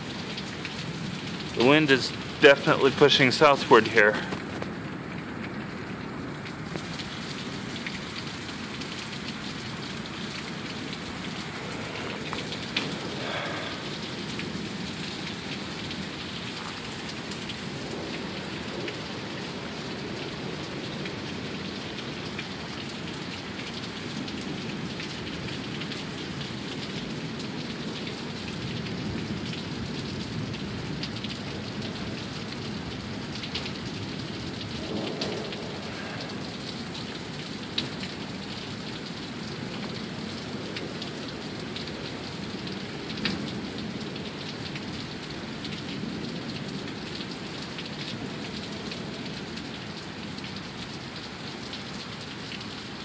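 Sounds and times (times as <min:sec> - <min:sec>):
heavy rain splashing: 0:00.0 - 0:53.0.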